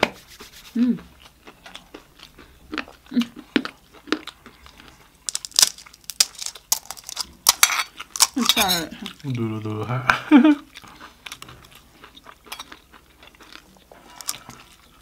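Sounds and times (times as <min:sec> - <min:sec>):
crunching of crisp snack food: 0:01.1 - 0:09.4, 0:10.6 - 0:15.0.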